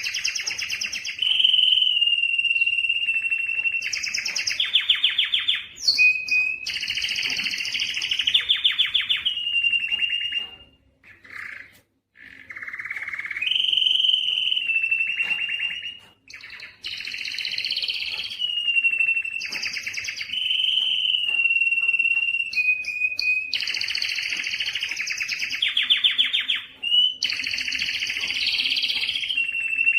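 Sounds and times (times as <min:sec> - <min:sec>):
canary singing trills: 0:00.0 - 0:29.9.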